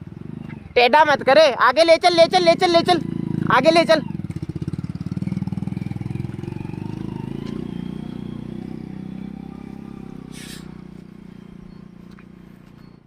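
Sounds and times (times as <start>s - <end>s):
motorcycle engine at low speed: 0.0s - 13.0s.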